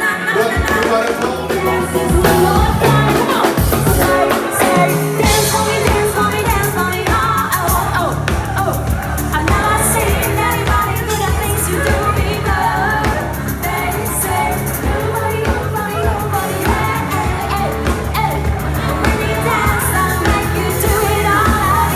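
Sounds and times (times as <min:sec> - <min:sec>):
live band playing pop song: 0:00.0 - 0:21.9
person singing: 0:00.0 - 0:21.9.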